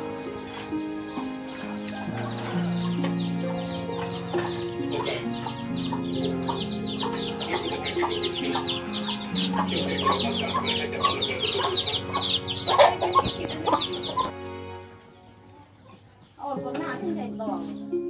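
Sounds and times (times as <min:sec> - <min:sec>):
chicks peeping: 0:00.0 - 0:16.5
chickens clucking: 0:00.0 - 0:17.8
background music: 0:00.0 - 0:18.0.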